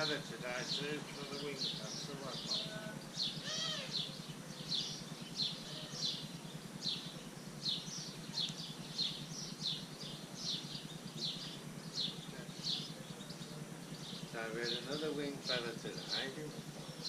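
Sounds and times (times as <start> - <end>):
bird chirping: 0.0 - 17.0
steady low hum: 0.0 - 17.0.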